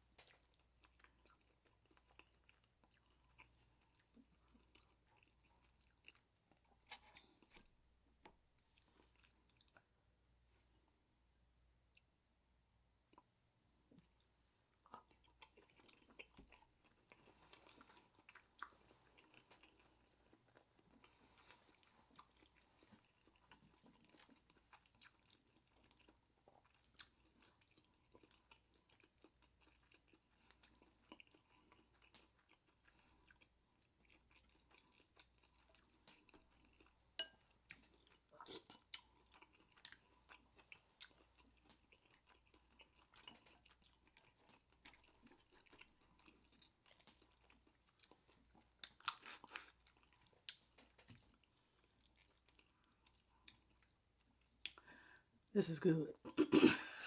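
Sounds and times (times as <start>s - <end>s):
close-miked chewing: 0.0s - 9.9s, 13.9s - 55.5s.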